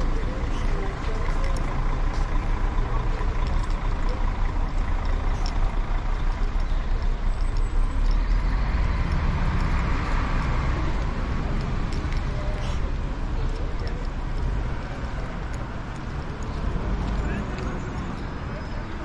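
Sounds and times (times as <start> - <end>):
motor vehicle rumbling: 0.0 - 19.0.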